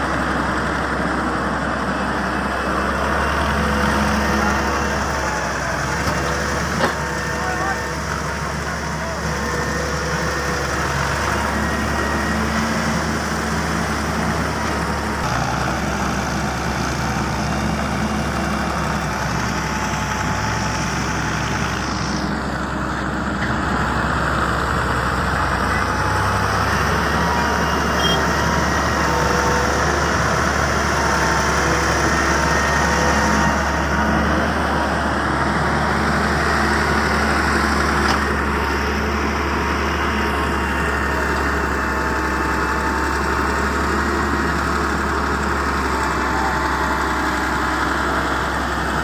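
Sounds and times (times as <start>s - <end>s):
diesel earthmoving machinery running: 0.0s - 49.0s.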